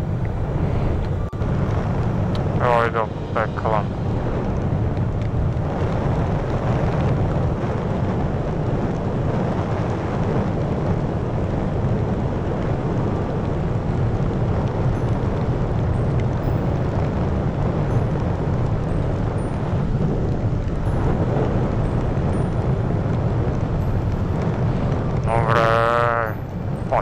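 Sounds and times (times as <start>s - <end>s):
wind rush on microphone: 0.0s - 27.0s.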